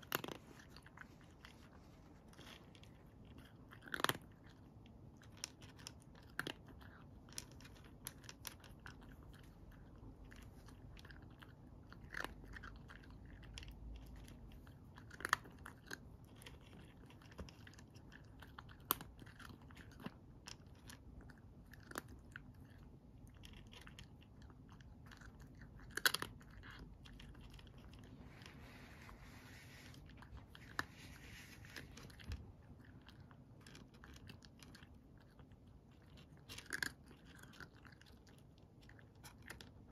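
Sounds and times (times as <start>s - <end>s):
cat crunching dry kibble: 0.0s - 39.9s.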